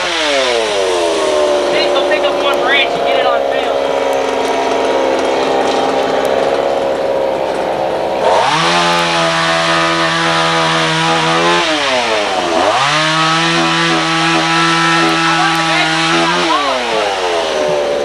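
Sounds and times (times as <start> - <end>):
chainsaw idling and revving: 0.0 - 18.0.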